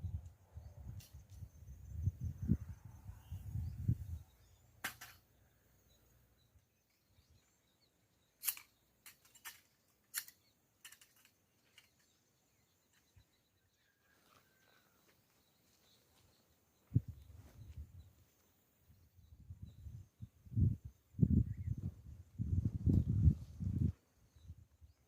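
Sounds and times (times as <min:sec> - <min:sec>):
faint bird chirp: 0:00.0 - 0:25.0.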